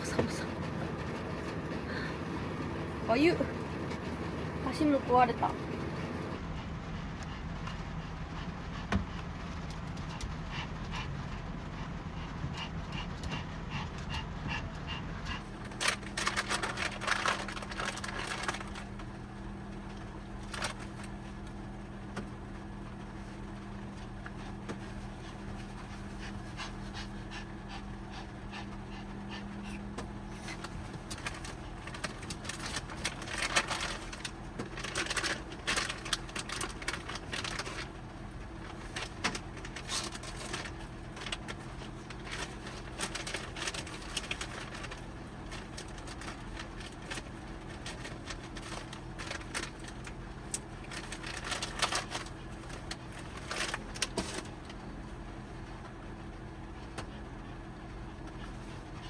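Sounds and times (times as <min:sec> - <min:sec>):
steady low hum: 0:00.0 - 0:59.0
dog panting: 0:06.0 - 0:19.1, 0:23.1 - 0:59.0.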